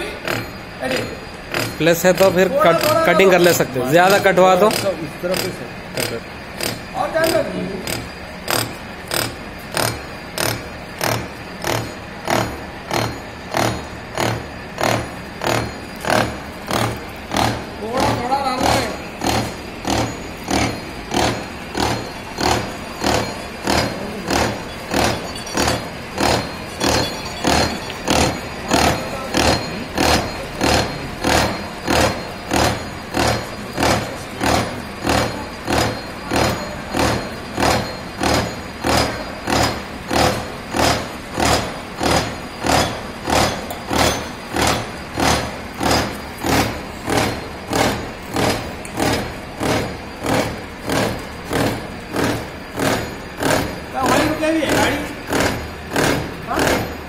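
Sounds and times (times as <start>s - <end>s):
milling machine cutting steel: 0.0s - 57.0s.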